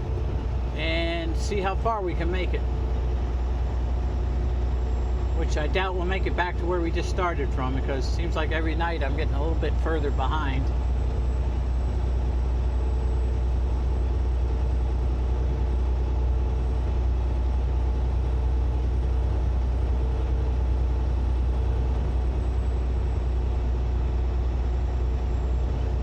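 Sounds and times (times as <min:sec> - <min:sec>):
truck engine drone inside cab: 0:00.0 - 0:26.0.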